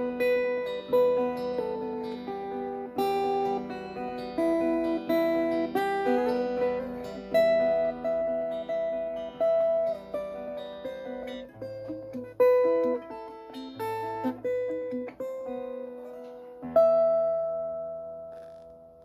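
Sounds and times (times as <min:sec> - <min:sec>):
electro-acoustic guitar through amp: 0:00.0 - 0:19.0.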